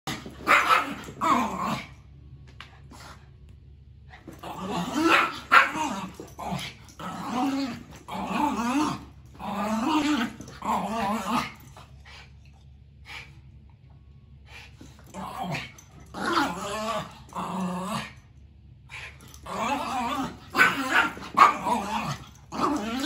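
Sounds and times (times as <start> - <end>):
dogs growling and barking: 0.0 - 2.0, 4.1 - 13.3, 14.6 - 23.0.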